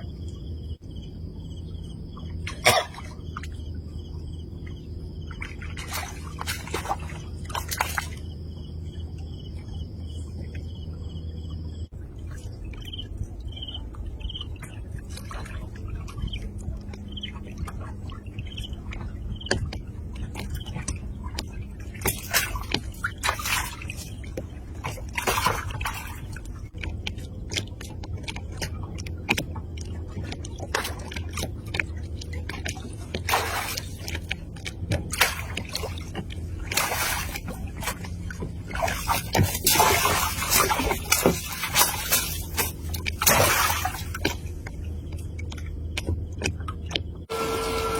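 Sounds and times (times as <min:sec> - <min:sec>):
water splashing and sloshing: 0:00.0 - 0:47.9.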